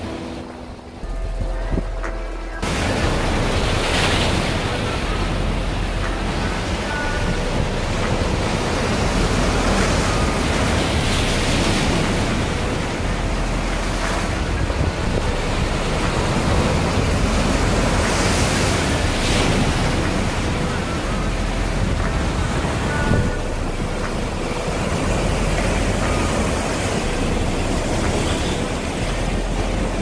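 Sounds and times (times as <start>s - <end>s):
sea waves breaking over rocks: 0.0s - 30.0s
wind buffeting microphone: 0.0s - 30.0s.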